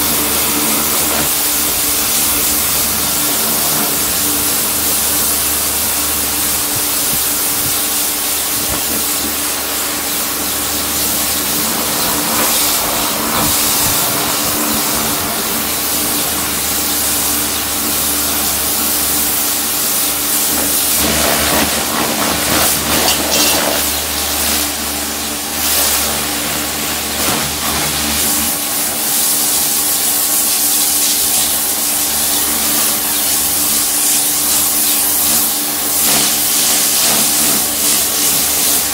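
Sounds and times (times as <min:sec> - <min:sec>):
motor and pump humming: 0:00.0 - 0:38.9
pressure washer water jet hissing: 0:00.0 - 0:38.9.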